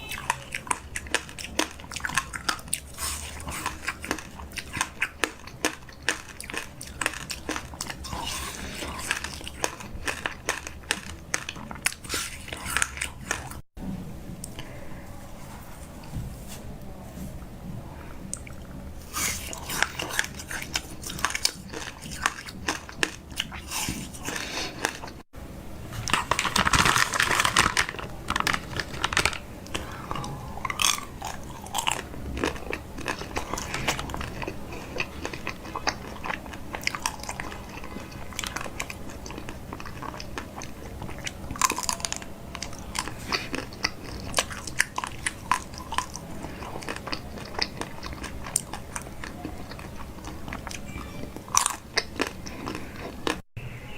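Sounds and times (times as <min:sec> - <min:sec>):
person chewing crunchy food: 0:00.0 - 0:13.8, 0:18.3 - 0:25.3, 0:25.9 - 0:53.5.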